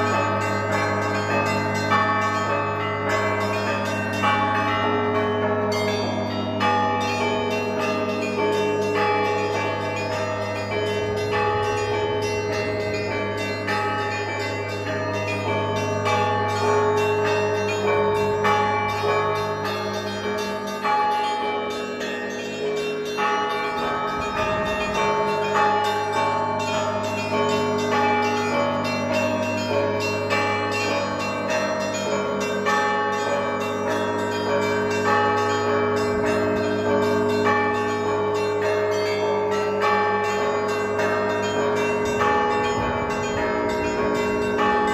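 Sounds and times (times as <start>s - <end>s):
church bells ringing: 0.0s - 44.9s
low hum of large bell: 0.0s - 44.9s.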